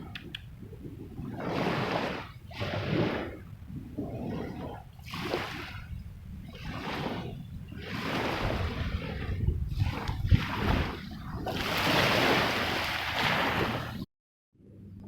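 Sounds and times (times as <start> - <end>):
water sloshing and splashing: 0.0 - 14.8.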